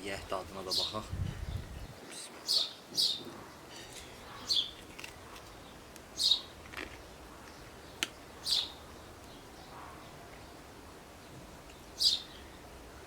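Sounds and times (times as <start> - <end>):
small bird chirping: 0.7 - 10.6, 11.2 - 12.6.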